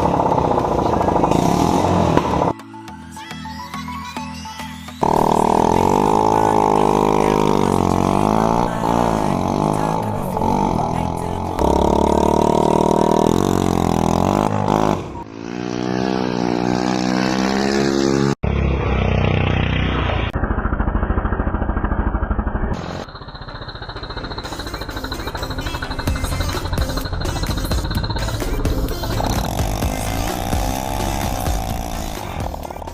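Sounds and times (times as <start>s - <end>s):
kart engine revving: 0.0s - 2.6s, 5.0s - 32.9s.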